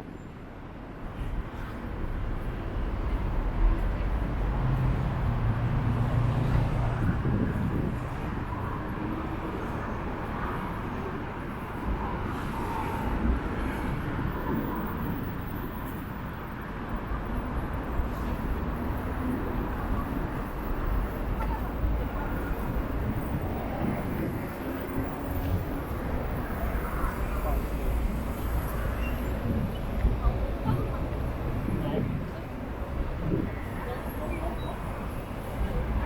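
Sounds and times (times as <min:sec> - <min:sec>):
road traffic rumble: 0:01.2 - 0:36.0.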